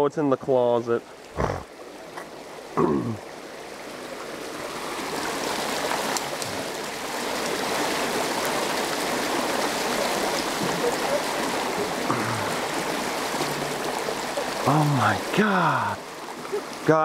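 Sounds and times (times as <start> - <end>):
water rushing from a pipe: 0.0 - 17.0.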